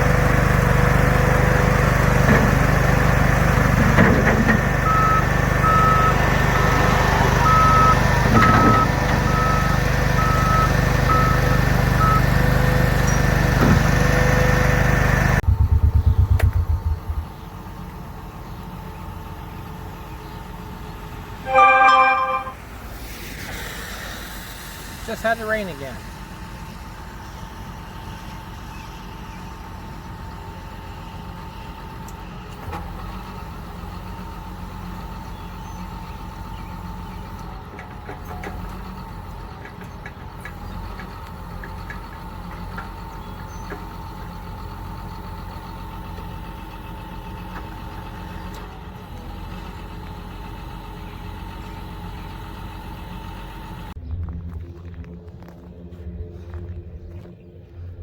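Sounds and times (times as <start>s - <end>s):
vehicle engine running with whine: 0.0s - 21.4s, 26.0s - 58.0s.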